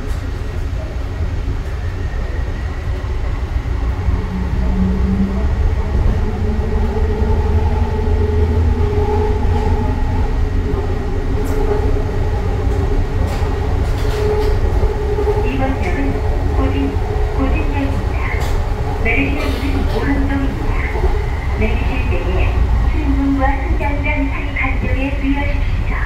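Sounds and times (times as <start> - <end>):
train interior rumble and hum: 0.0 - 26.0.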